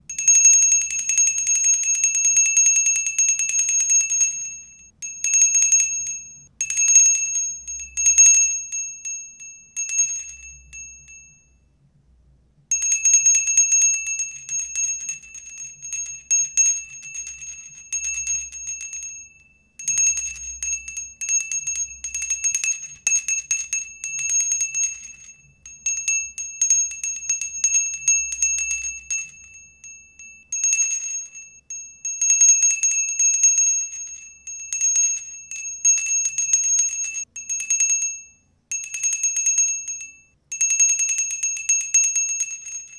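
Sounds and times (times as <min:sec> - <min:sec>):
small bell ringing in a trill: 0:00.0 - 0:11.7, 0:12.7 - 0:42.9.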